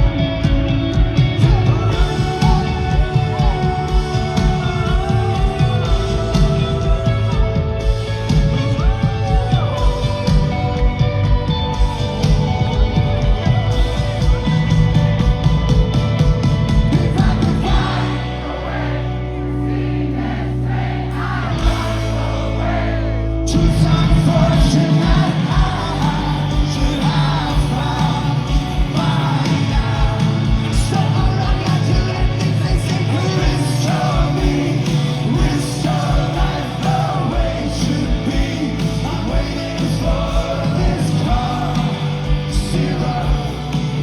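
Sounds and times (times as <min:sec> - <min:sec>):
rock band playing live: 0:00.0 - 0:44.0.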